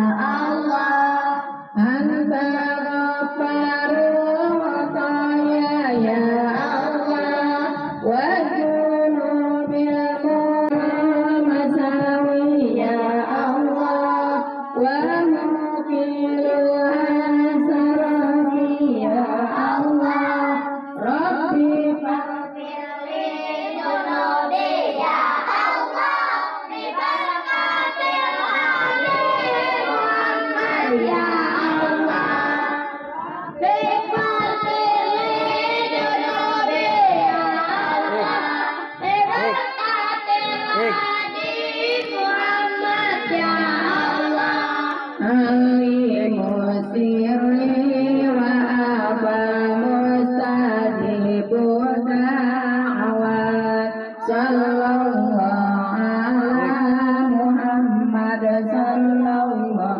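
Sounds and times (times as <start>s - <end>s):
group singing devotional chant: 0.0s - 59.9s.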